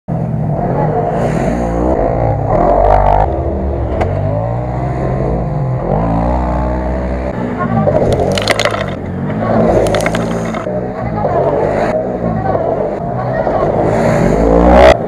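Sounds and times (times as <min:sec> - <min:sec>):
utv engines revving: 0:00.1 - 0:15.0.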